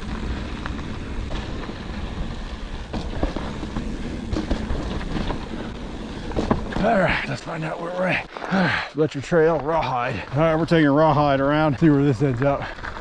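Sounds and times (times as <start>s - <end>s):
bike rattles and clicks: 0.0s - 13.0s
bike tyres on dirt trail: 0.0s - 13.0s.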